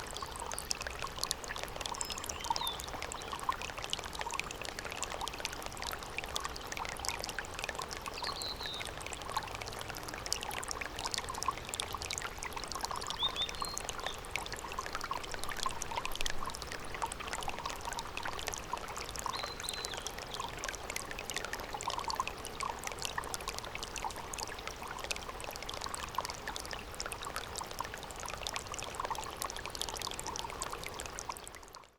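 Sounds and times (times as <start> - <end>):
stream water babbling: 0.0 - 31.9.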